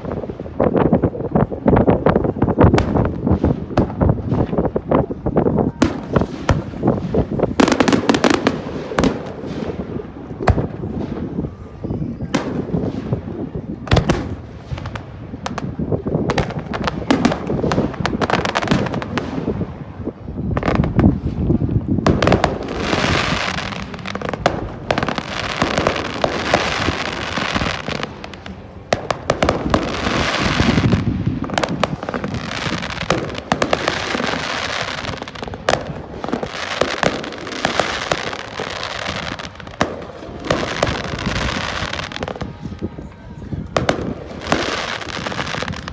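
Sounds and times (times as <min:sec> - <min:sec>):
fireworks bangs and booms: 0:00.0 - 0:45.9
fireworks crackling: 0:00.0 - 0:45.9.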